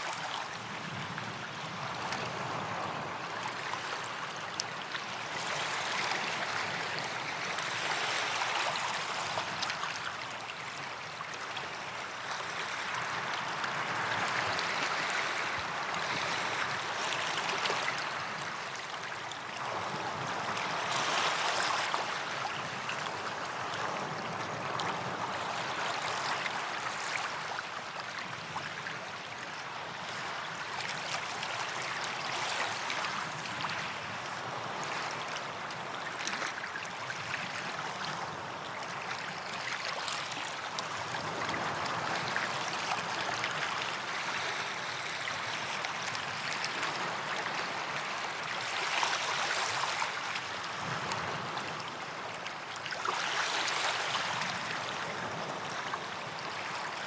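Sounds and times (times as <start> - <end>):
small waves lapping on sand: 0.0 - 57.0.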